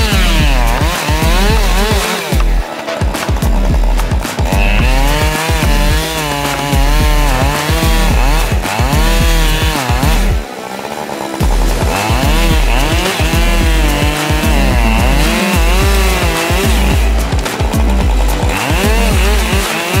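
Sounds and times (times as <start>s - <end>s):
chainsaw cutting tree trunk: 0.0s - 20.0s
music playing: 0.0s - 20.0s.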